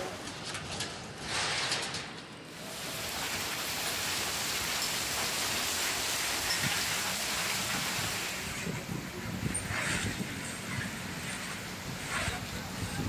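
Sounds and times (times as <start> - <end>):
heavy rain on ground: 2.5 - 13.0.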